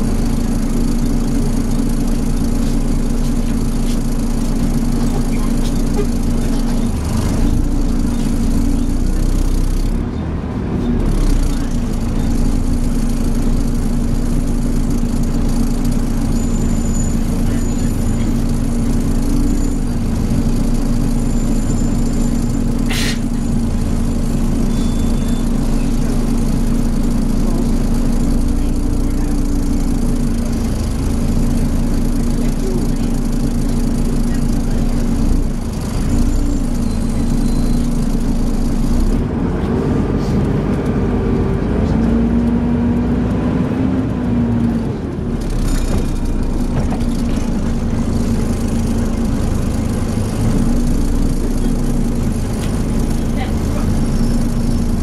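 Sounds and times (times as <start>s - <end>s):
bus engine with whining fan: 0.0s - 55.0s.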